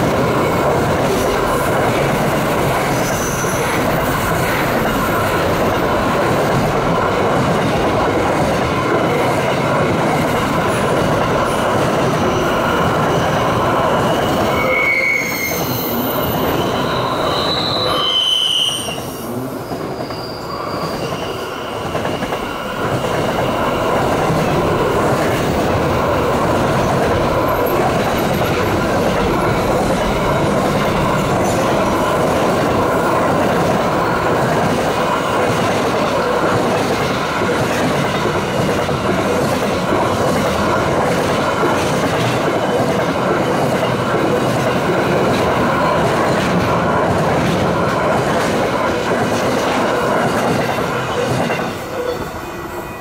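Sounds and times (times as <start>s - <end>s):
train wheels squealing: 0.0s - 7.4s, 8.6s - 47.0s, 48.0s - 53.0s
freight train wheels rumbling: 0.0s - 53.0s.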